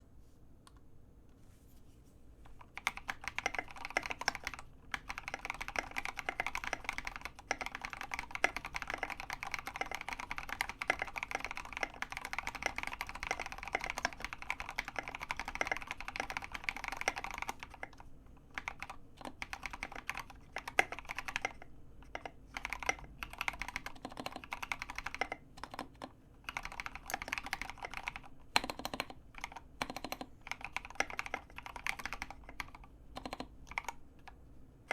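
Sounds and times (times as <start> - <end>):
mechanical keyboard typing: 2.5 - 34.9.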